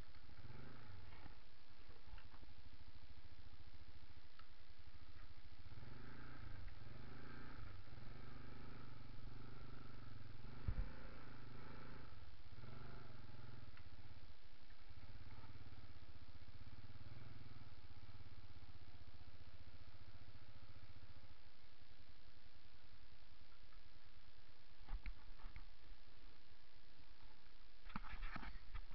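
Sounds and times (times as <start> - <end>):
vehicle engine running: 0.0 - 24.7.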